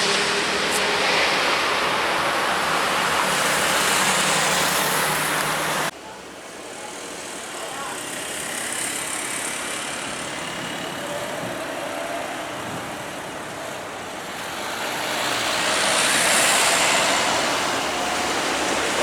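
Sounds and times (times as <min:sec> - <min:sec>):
jet airliner engines: 0:00.0 - 0:05.9, 0:07.0 - 0:19.0.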